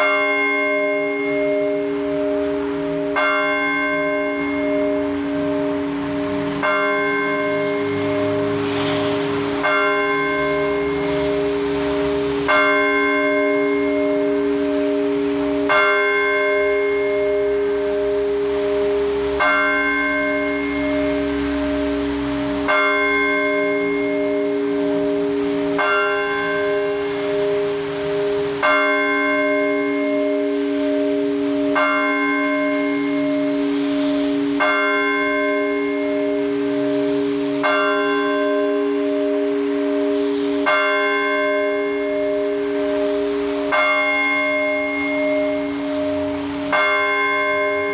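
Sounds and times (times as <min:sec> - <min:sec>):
large church bells humming: 0:00.0 - 0:47.9.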